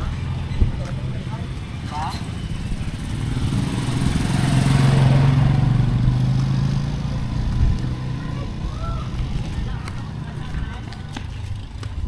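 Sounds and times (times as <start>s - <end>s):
motorcycle engine passing by: 0.0s - 11.9s.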